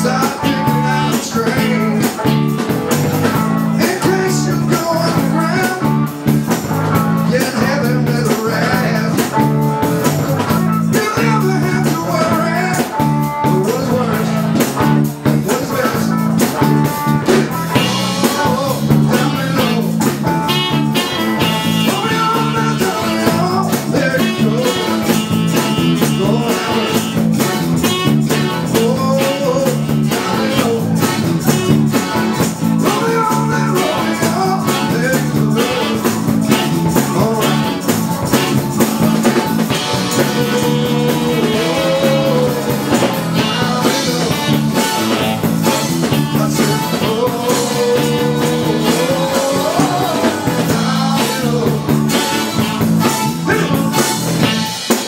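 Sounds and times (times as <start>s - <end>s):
electric guitar: 0.0s - 55.0s
repeating bass line: 0.0s - 55.0s
steady drum beat: 0.0s - 55.0s.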